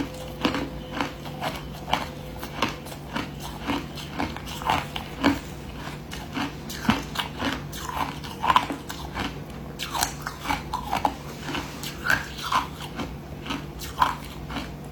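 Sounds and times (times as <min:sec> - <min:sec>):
person chewing ice: 0:00.0 - 0:14.9.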